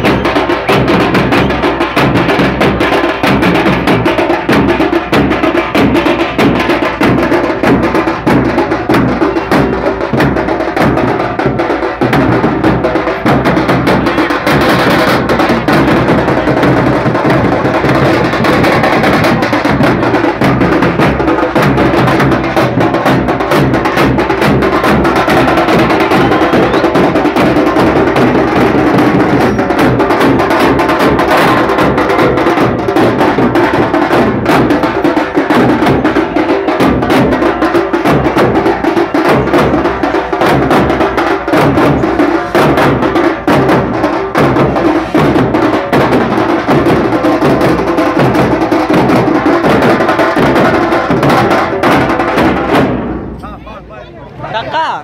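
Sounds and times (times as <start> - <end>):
fast drumming with sticks: 0.0 - 53.8.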